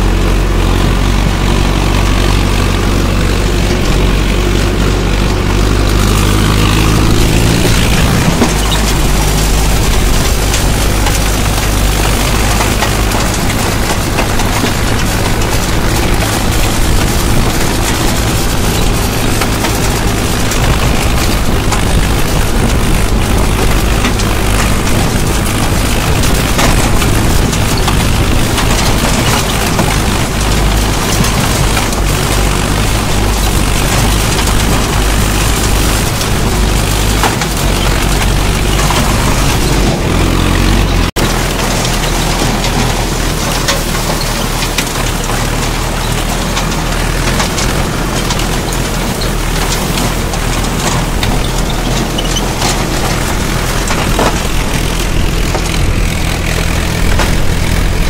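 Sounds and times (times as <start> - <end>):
rotavator blades churning soil: 0.0 - 58.0
tractor diesel engine running: 0.0 - 58.0.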